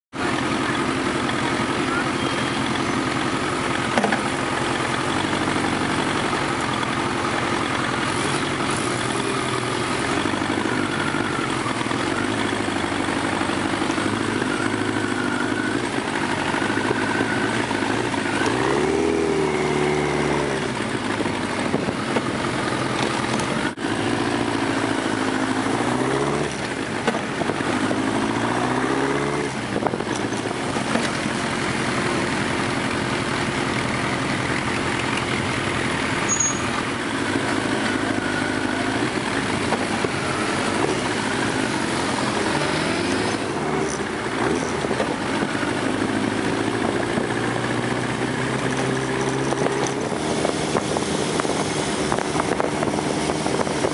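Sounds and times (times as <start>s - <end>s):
motorcycle engine revving: 0.1s - 53.9s.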